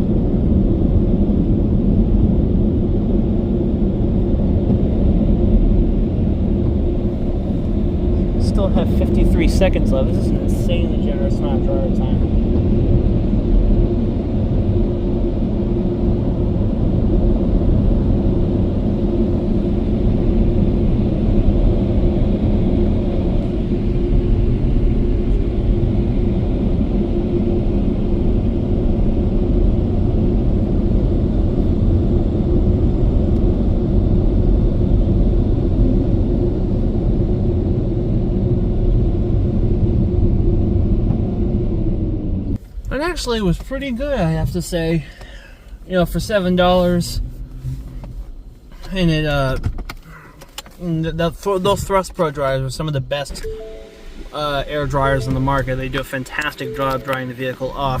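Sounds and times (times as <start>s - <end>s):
low hum: 0.0s - 42.9s, 53.2s - 58.0s.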